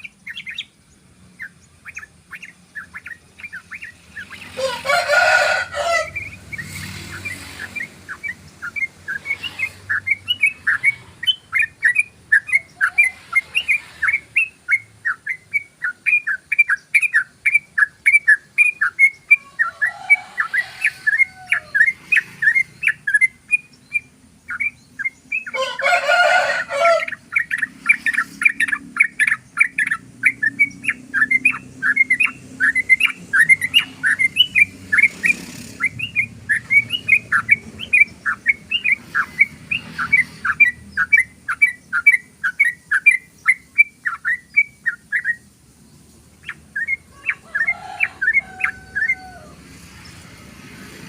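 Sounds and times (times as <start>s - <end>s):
bird singing rapid sharp notes: 0.0s - 51.0s.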